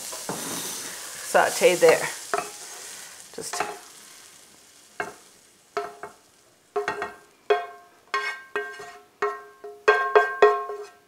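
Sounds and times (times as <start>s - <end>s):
utensil scraping a skillet: 0.0s - 11.0s.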